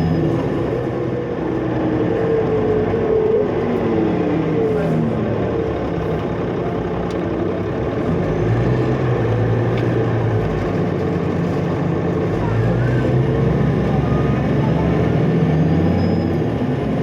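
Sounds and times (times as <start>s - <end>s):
bus diesel engine droning: 0.0s - 17.0s
road noise: 0.0s - 17.0s.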